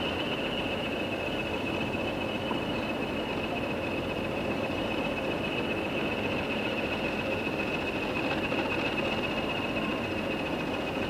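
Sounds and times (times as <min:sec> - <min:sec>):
diesel locomotive running: 0:00.0 - 0:11.0
high-pitched whine: 0:00.0 - 0:11.0.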